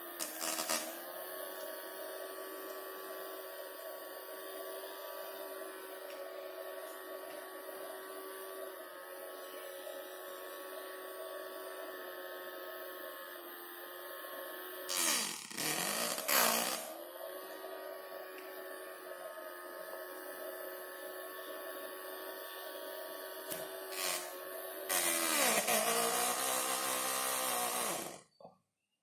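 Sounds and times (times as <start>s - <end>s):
small motor and fan whining: 0.0s - 28.6s.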